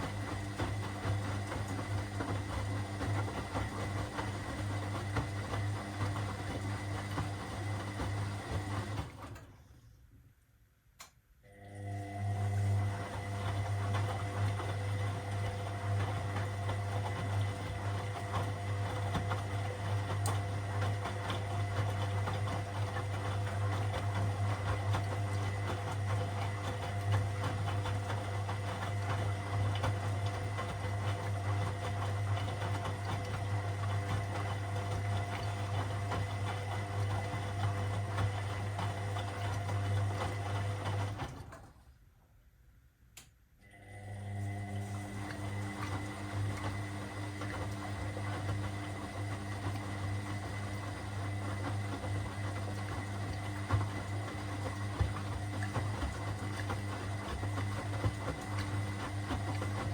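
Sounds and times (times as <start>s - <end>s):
washing machine running: 0.0s - 9.8s, 11.4s - 41.9s, 43.6s - 59.9s.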